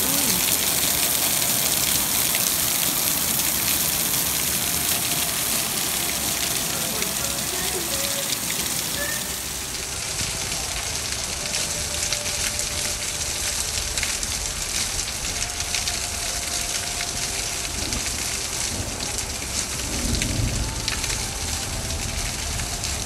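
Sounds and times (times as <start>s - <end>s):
heavy rain on deck boards: 0.0s - 23.0s.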